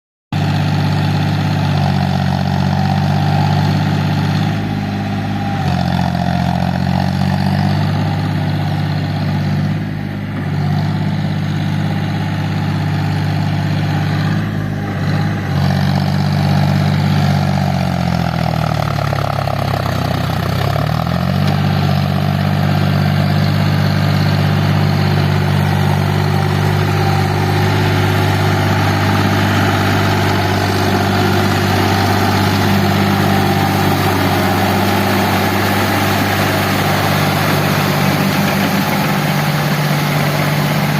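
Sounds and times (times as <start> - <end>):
tractor diesel engine running: 0.3 - 40.9.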